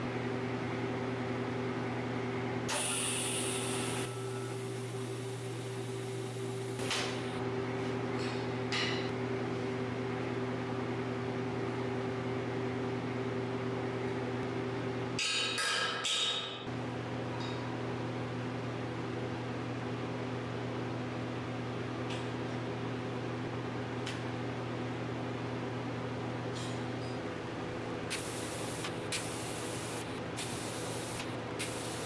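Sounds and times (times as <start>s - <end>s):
electrical hum of shop equipment: 0.0s - 32.0s.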